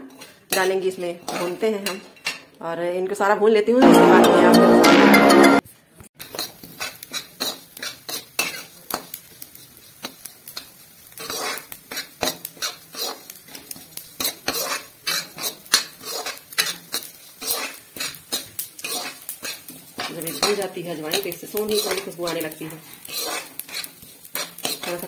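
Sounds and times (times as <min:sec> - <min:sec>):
metal spatula scraping metal pan: 0:00.0 - 0:02.4, 0:06.2 - 0:25.0.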